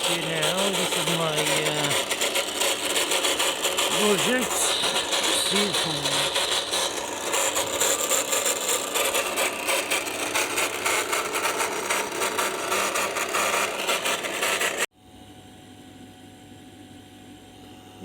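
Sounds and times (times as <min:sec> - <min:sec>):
tool scraping spinning wood: 0:00.0 - 0:14.9.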